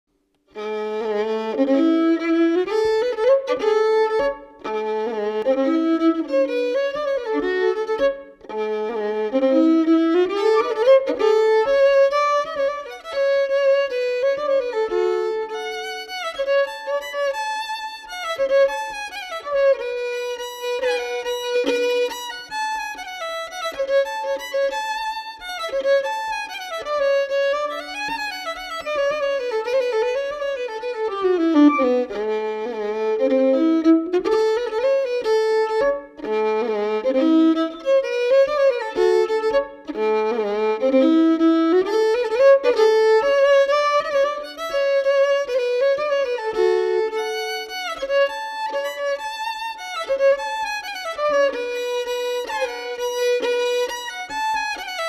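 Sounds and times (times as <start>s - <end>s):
solo fiddle melody: 0.3s - 55.0s.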